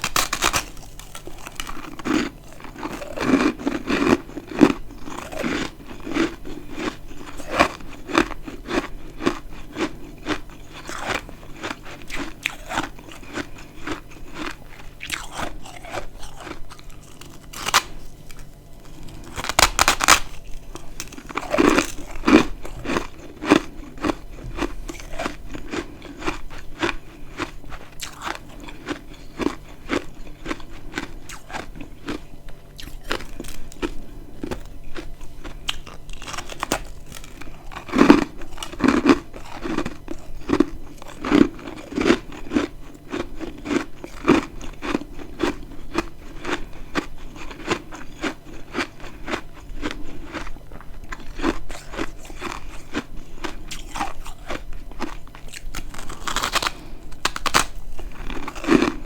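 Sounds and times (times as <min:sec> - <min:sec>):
frost chunks crunching being chewed: 0:00.0 - 0:59.0.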